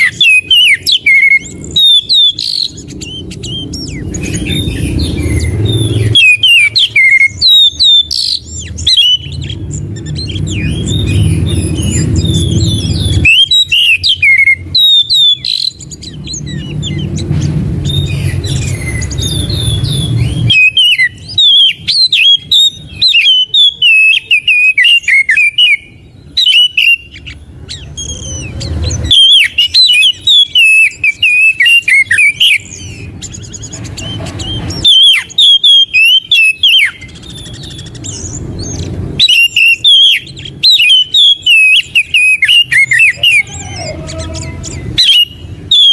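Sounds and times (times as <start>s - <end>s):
bird singing whistled notes: 0.0s - 45.9s.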